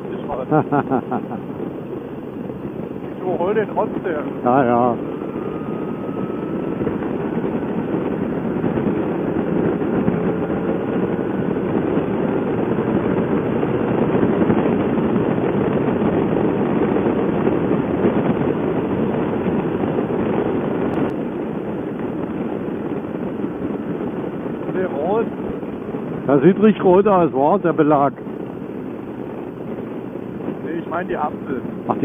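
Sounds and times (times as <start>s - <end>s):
motorcycle engine accelerating: 0.0s - 32.0s
wind rush on helmet: 0.0s - 32.0s.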